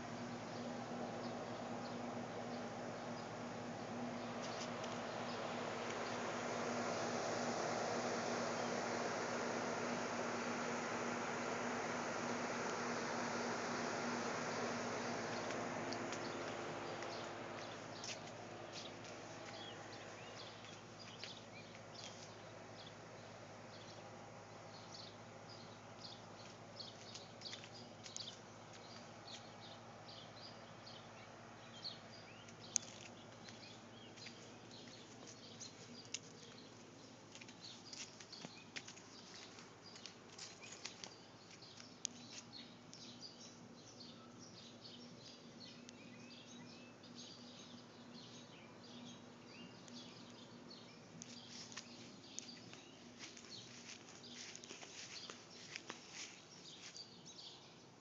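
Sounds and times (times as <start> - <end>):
birds chirping: 0.0 - 58.0
faint background hum: 0.0 - 58.0.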